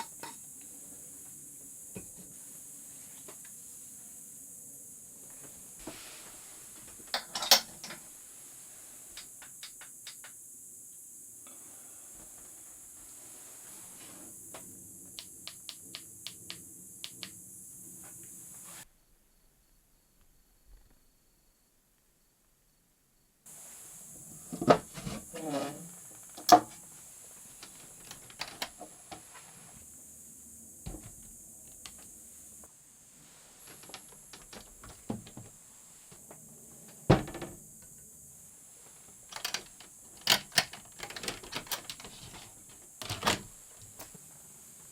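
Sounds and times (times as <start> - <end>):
faint high hiss: 0.0 - 44.9.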